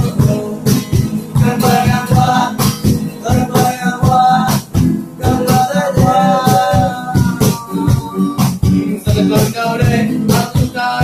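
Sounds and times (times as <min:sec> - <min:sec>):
acoustic guitars strumming: 0:00.0 - 0:11.0
hand percussion beat: 0:00.0 - 0:11.0
men singing in unison: 0:00.0 - 0:11.0.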